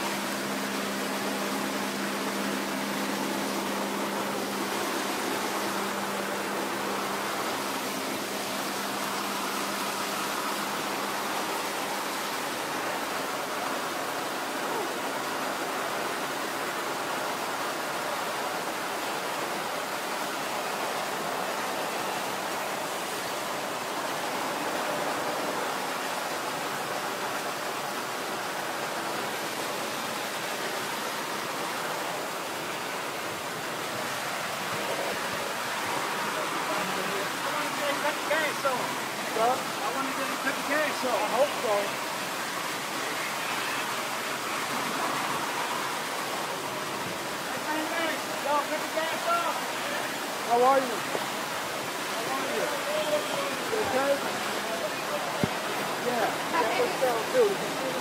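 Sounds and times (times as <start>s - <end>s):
hose water spraying: 0.0s - 58.0s.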